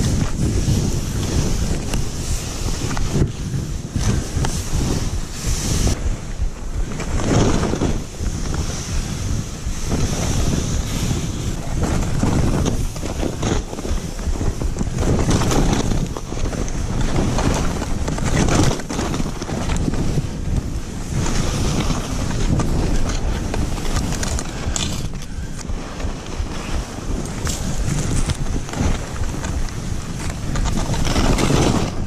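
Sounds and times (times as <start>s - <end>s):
skis scraping through snow: 0.0s - 32.0s
wind rumbling on microphone: 0.0s - 32.0s.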